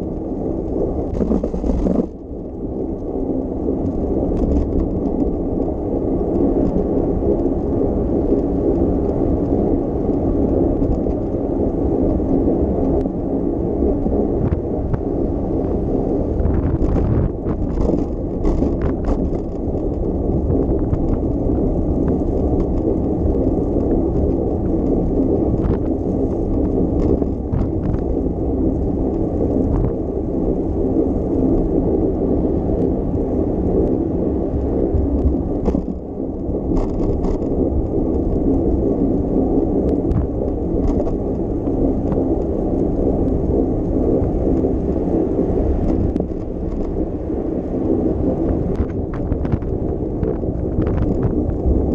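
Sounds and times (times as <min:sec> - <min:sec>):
bicycle tyres rolling on road: 0:00.0 - 0:51.9
wind on microphone: 0:00.0 - 0:51.9.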